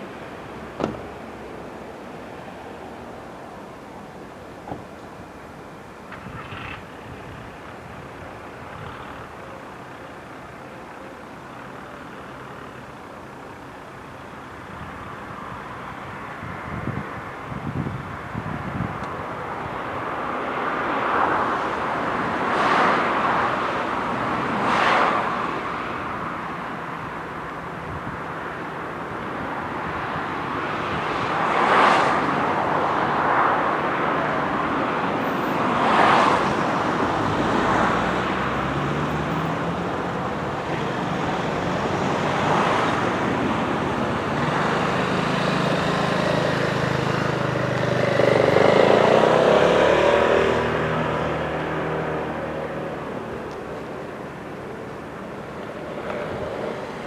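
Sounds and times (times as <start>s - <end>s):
cars passing: 11.2s - 57.0s.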